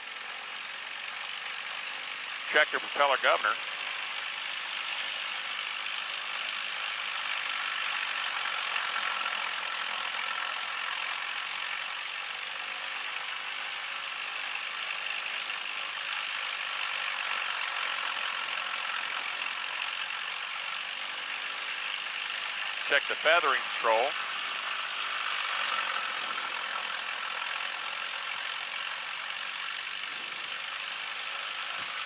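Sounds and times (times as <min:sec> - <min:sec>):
propeller aircraft engine drone: 0:00.0 - 0:32.0.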